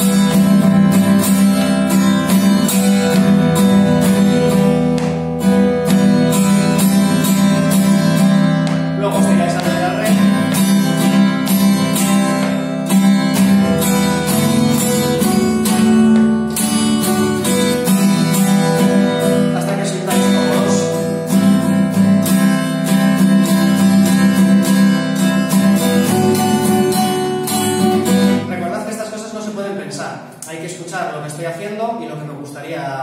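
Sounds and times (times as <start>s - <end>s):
acoustic guitar strumming: 0.0s - 30.8s.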